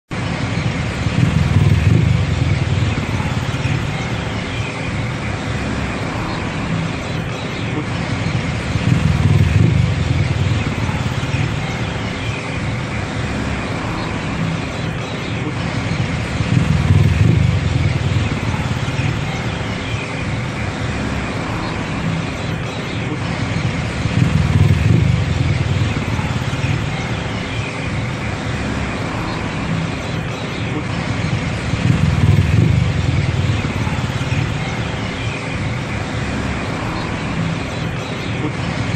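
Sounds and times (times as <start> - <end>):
city traffic: 0.0 - 38.9
road noise: 0.0 - 38.9
auto rickshaw engine rumble: 0.1 - 38.9.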